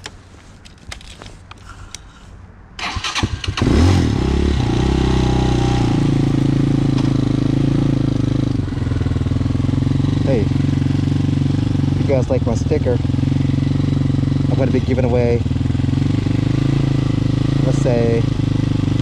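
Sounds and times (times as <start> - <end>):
motorcycle engine starting and idling: 2.8 - 19.0.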